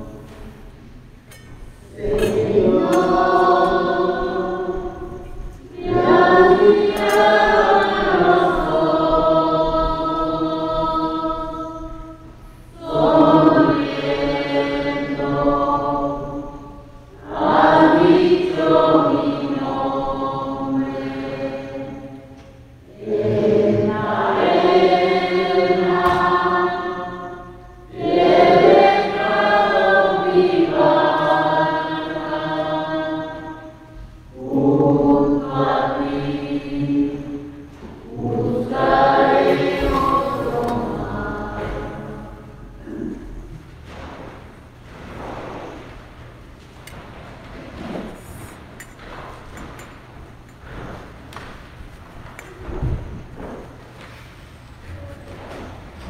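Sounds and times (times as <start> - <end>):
choir singing a slow hymn: 0.0 - 56.0.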